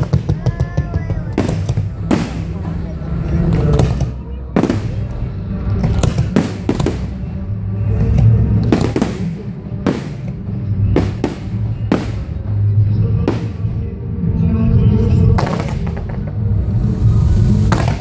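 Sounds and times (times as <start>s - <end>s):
music with deep bass: 0.0s - 18.0s.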